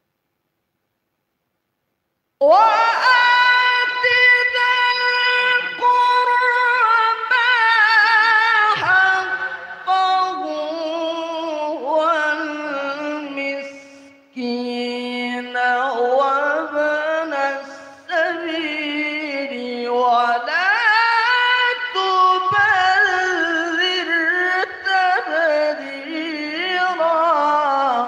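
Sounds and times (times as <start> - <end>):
man chanting melodic recitation: 2.6 - 28.0.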